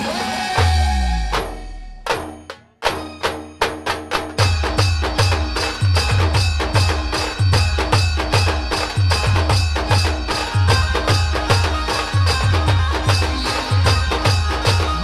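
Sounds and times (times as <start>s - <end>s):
clacking percussion: 0.0s - 15.0s.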